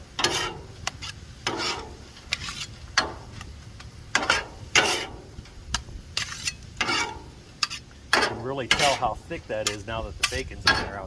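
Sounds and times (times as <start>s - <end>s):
spatula scraping on griddle: 0.0s - 3.5s, 4.1s - 11.0s
faint sizzle: 0.0s - 11.0s.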